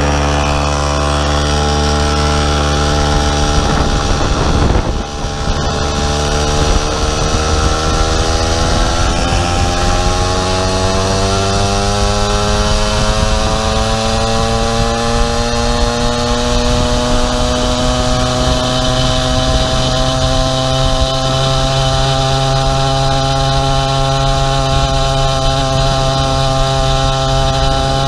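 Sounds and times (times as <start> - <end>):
two-stroke engine accelerating: 0.0 - 28.0.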